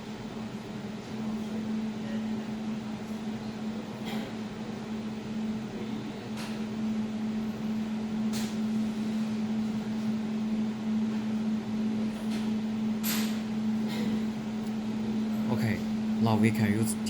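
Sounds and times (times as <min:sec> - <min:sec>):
laser welding machine humming: 0:00.0 - 0:17.0.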